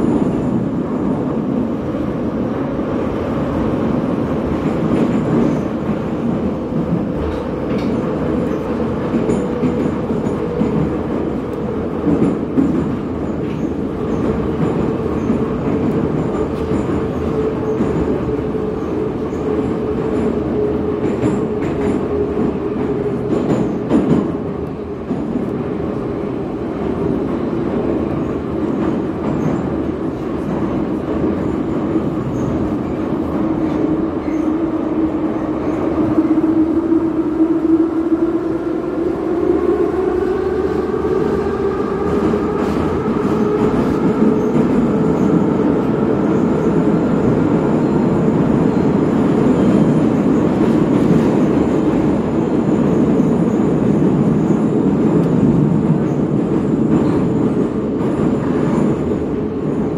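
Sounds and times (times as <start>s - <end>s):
train rumbling in a tunnel: 0.0s - 59.9s.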